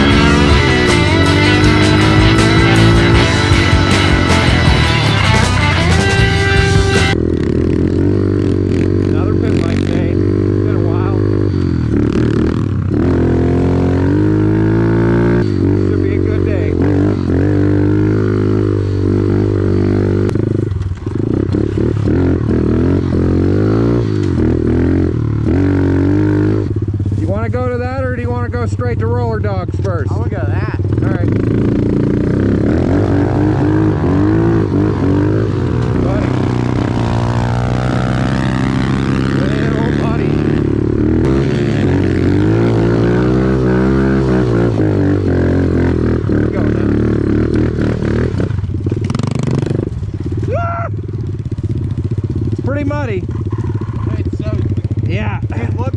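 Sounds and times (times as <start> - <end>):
small engines revving: 0.0 - 27.0, 30.1 - 50.5.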